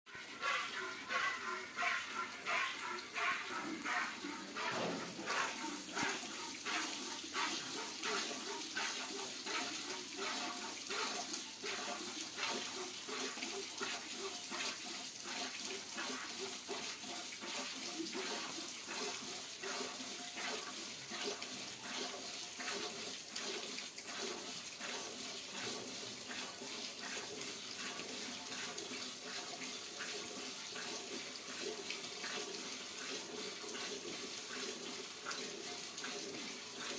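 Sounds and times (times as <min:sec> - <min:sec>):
milk squirting into a pail: 0:00.5 - 0:36.9.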